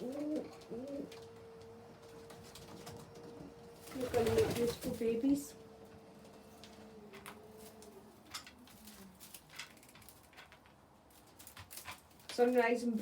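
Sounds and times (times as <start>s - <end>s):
pigeons tapping and scuffing: 0.0s - 13.0s.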